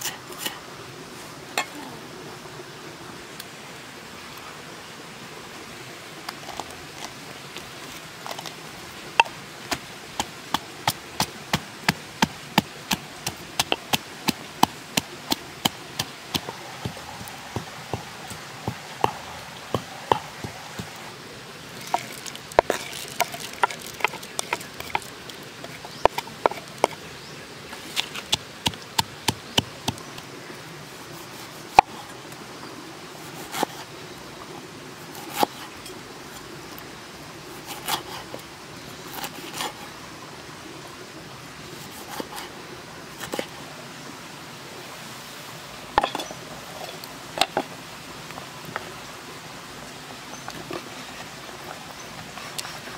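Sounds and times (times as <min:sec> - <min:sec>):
steady background hiss: 0:00.0 - 0:52.9.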